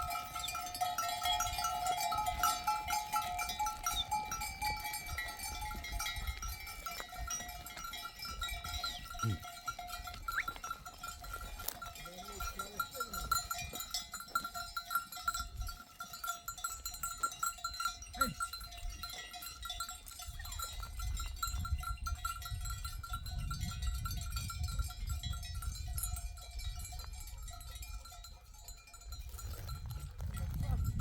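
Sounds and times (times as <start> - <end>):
sheep bells clanking: 0.0 - 31.0.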